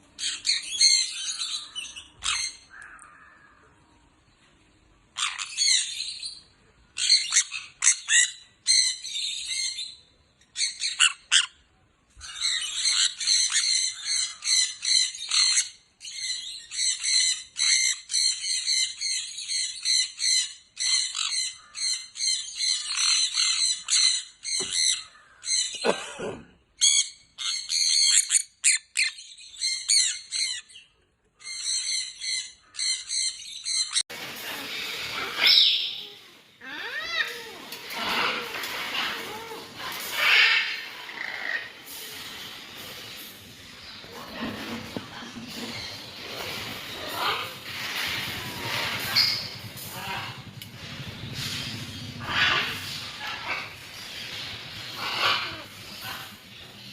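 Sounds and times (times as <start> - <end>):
caged birds chirping and squawking: 0.0 - 56.9.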